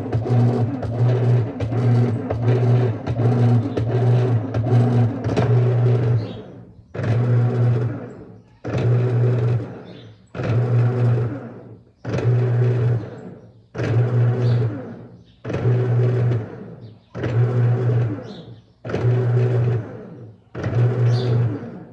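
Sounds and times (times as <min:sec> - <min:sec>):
washing machine agitating: 0:00.0 - 0:21.9.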